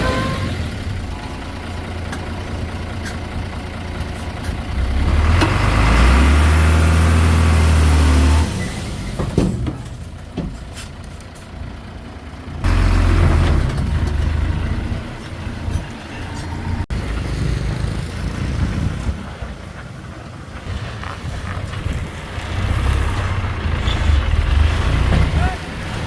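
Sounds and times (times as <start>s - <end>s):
heavy diesel engine rumbling: 0.0s - 26.0s.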